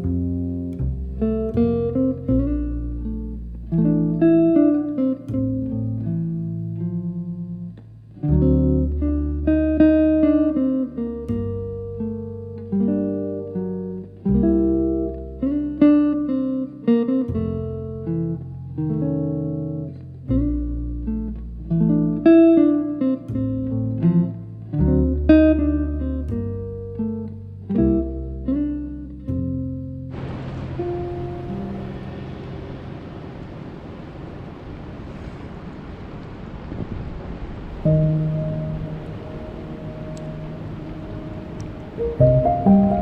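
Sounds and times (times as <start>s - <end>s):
low bass notes: 0.0s - 33.1s, 37.9s - 43.0s
plucked guitar notes: 0.0s - 33.4s, 37.8s - 43.0s.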